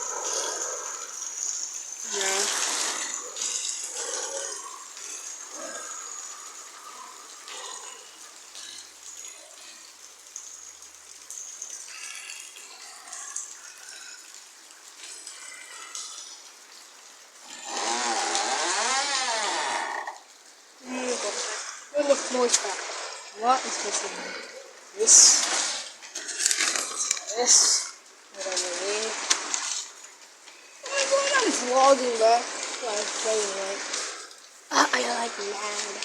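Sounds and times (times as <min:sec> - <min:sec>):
rain pouring: 0:00.0 - 0:36.0.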